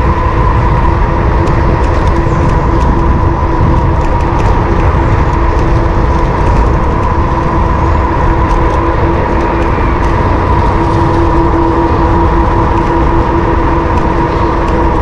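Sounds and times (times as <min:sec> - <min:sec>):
electric motor whine: 0:00.0 - 0:15.0
wind rumbling on microphone: 0:00.0 - 0:15.0.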